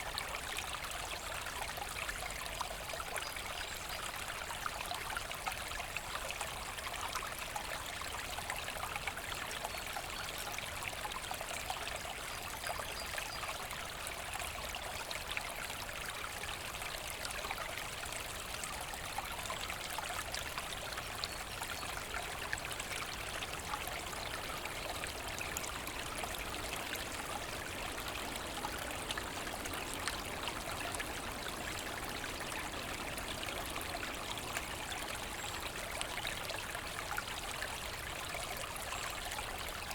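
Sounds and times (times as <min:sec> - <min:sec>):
brook flowing over stones: 0:00.0 - 0:39.9.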